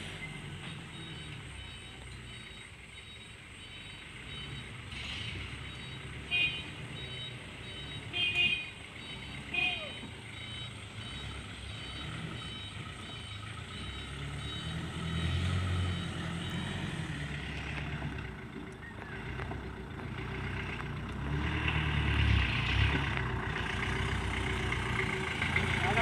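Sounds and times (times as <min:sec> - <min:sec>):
truck engine crawling: 0:00.0 - 0:26.0.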